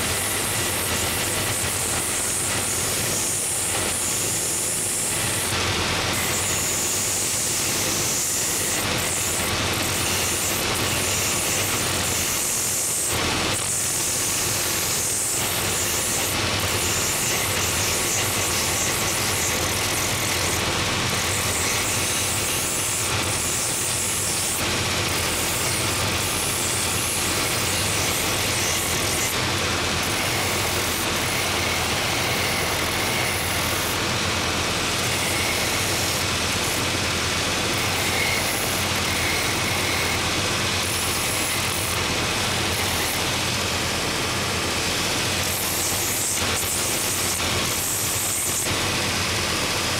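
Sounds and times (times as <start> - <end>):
belt sander motor hum: 0.0 - 49.9.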